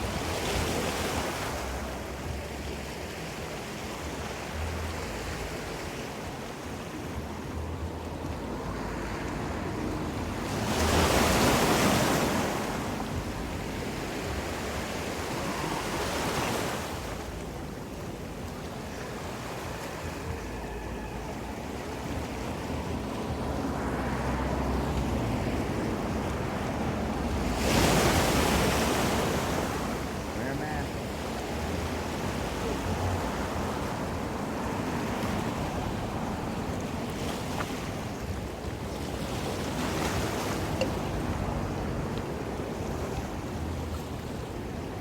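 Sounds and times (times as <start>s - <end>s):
ocean waves washing onto shore: 0.0s - 45.0s.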